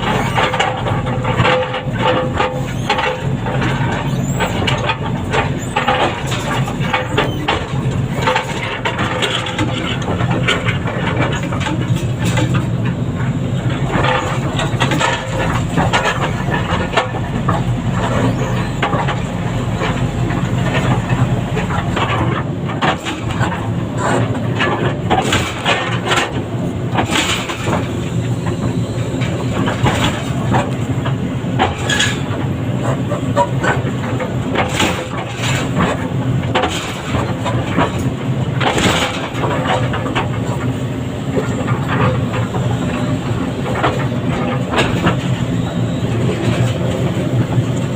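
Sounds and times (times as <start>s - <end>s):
diesel machinery running: 0.0s - 47.9s
knocks and clanks: 0.0s - 47.9s.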